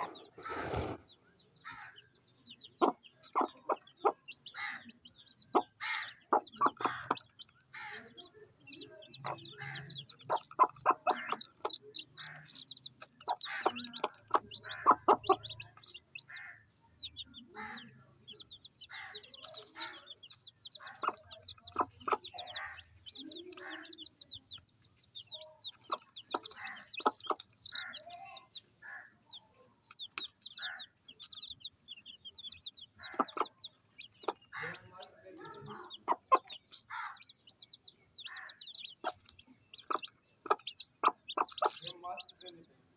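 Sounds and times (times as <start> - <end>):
hen clucking: 0.0 - 42.7
chicks peeping: 0.0 - 42.9.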